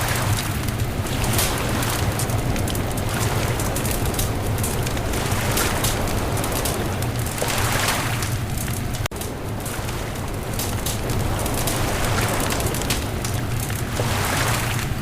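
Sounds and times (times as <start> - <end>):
bonfire crackling and popping: 0.0 - 15.0
low rushing rumble: 0.6 - 14.2.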